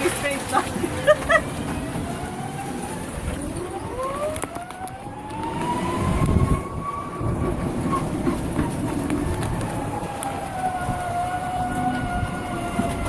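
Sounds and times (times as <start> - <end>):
rumble of the ride: 0.0 - 13.0.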